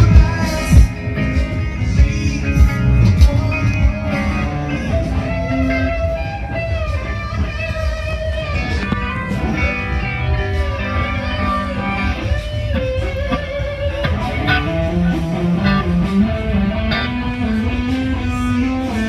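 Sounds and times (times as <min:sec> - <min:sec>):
bass guitar: 0:00.0 - 0:19.0
guitar melody: 0:00.0 - 0:19.0
live band playing: 0:00.0 - 0:19.0.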